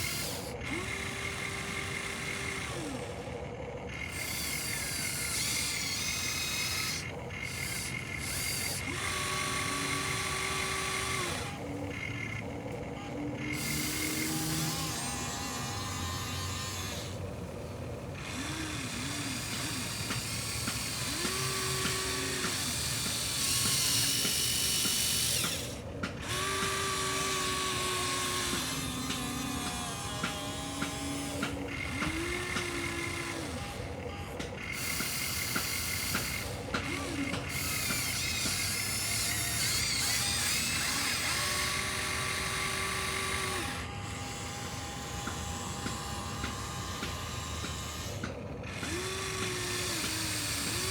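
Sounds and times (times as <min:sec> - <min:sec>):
small electric motors whining: 0:00.0 - 0:50.9.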